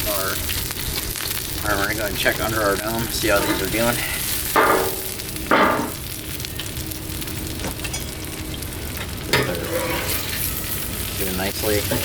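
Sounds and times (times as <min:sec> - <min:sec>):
vegetables sizzling on a griddle: 0:00.0 - 0:12.0.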